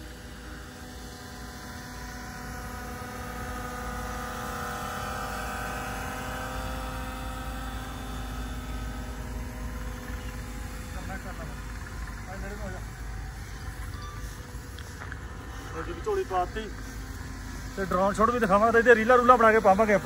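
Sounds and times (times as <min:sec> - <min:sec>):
drone propellers humming: 0:00.0 - 0:20.0.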